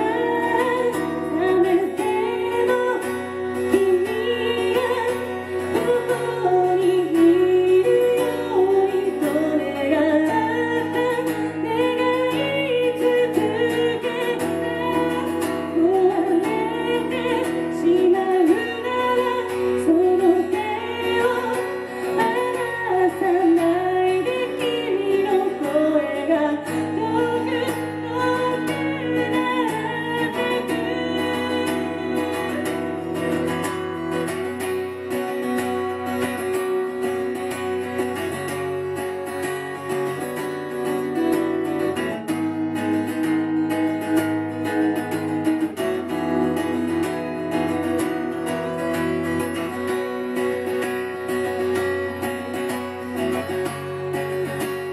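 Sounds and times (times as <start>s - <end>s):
strummed acoustic guitar: 0.0s - 54.9s
woman singing: 0.0s - 54.9s.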